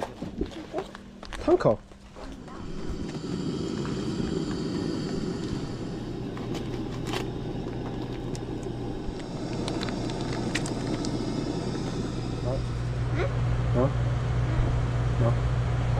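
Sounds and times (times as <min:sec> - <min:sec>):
low rushing hum: 0:02.1 - 0:15.9.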